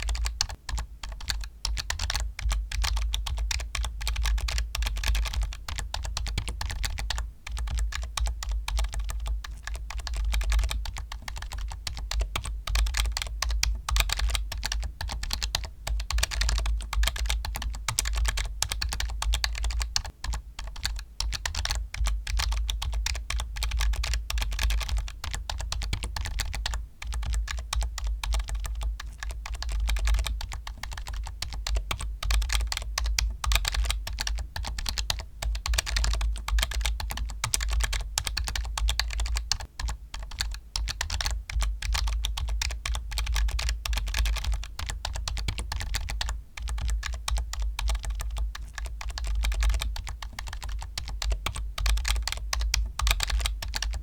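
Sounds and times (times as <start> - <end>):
typing on computer keyboard: 0.0 - 54.0.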